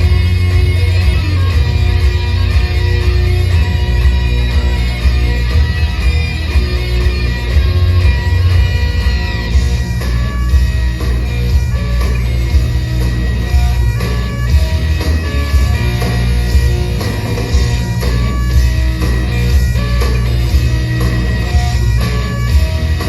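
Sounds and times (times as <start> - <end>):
rock music with guitar and bass: 0.0 - 23.0.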